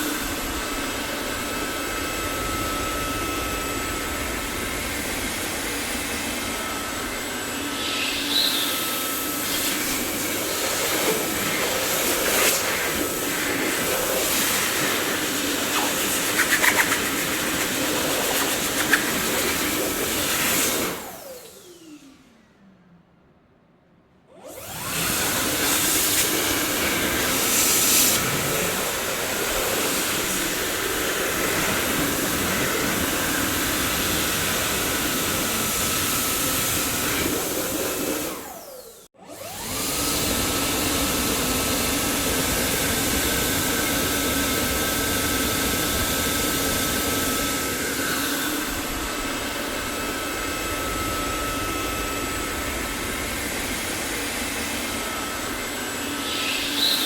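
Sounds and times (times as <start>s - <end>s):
vacuum cleaner motor running: 0.0s - 22.5s, 24.3s - 57.0s.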